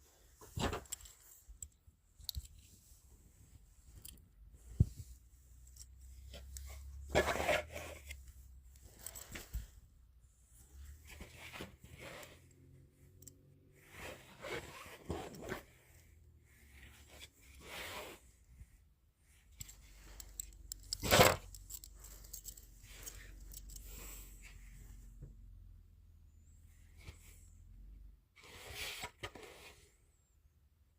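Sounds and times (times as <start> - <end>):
rustling and scraping handling noise: 0.0 - 25.5, 28.4 - 30.1.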